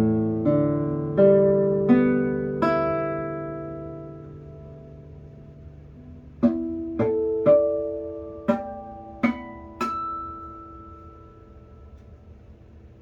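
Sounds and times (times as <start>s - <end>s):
plucked guitar notes: 0.0s - 12.3s.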